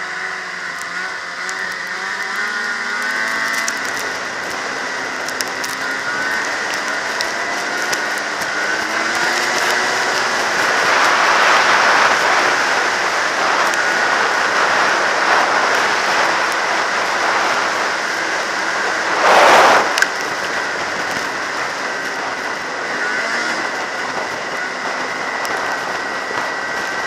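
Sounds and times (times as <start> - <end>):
snowmobile engine and track noise: 0.0 - 27.0
thin steady whine: 0.0 - 27.0
wind rushing over microphone: 4.0 - 27.0.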